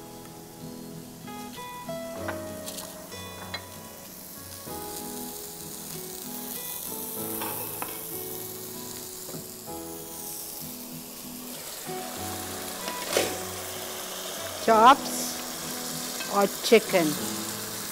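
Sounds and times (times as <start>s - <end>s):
food sizzling in a pan: 0.0s - 17.9s
soft instrumental music: 0.0s - 17.9s.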